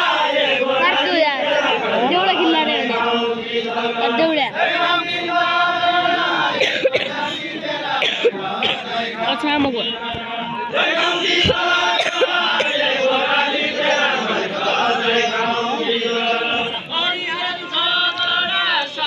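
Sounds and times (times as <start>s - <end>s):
group chanting folk song: 0.0s - 19.0s.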